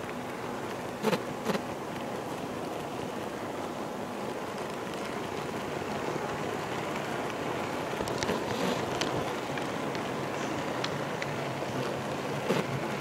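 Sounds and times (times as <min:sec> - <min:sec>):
model train wheels rolling on track: 0:00.0 - 0:13.0.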